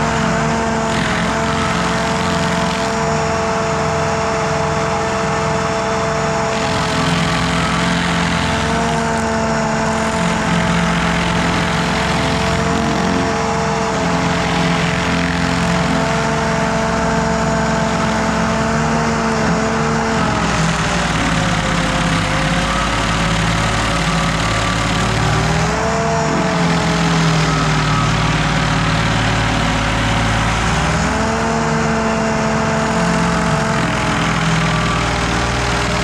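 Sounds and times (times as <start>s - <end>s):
cutter wheel grinding stump: 0.0s - 36.0s
stump grinder engine running: 0.0s - 36.0s.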